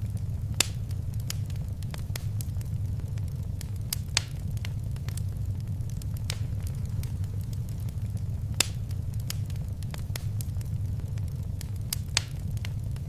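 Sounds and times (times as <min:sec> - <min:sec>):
fire crackling and popping: 0:00.0 - 0:13.0
low rumble of fire: 0:00.0 - 0:13.0.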